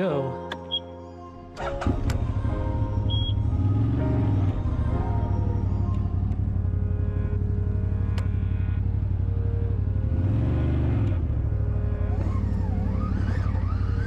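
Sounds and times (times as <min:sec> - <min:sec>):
atv engine running and revving: 0:01.6 - 0:14.0.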